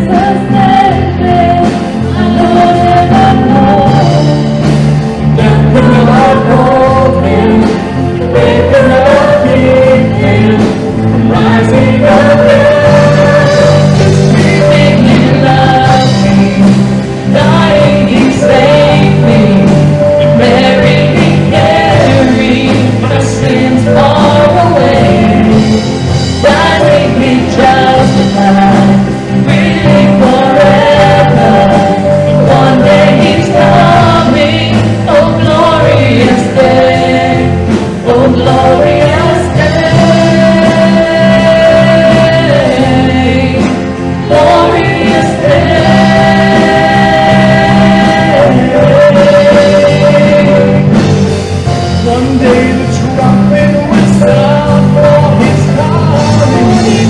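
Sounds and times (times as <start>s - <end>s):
band playing worship music: 0.0s - 57.0s
voices singing held notes: 0.0s - 57.0s.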